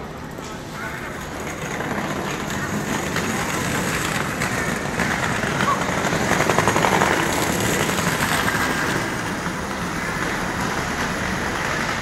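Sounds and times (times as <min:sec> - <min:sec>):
crowd noise: 0:00.0 - 0:12.0
traffic: 0:00.0 - 0:12.0.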